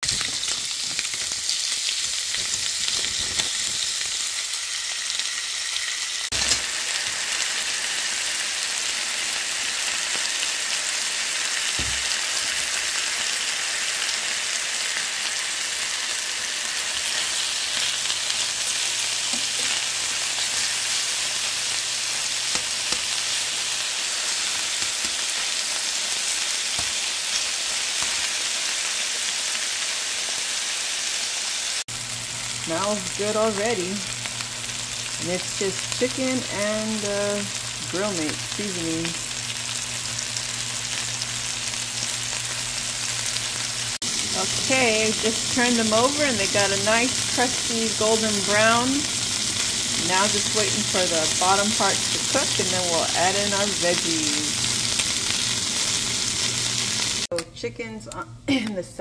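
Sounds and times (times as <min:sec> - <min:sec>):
chicken sizzling in a frying pan: 0:00.0 - 0:57.4.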